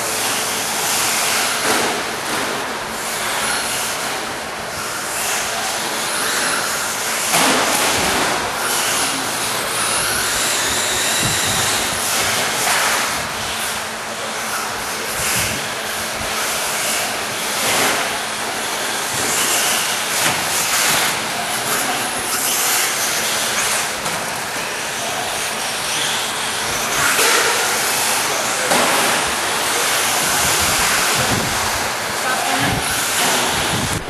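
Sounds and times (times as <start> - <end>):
radio-controlled cars whirring: 0.0 - 34.0.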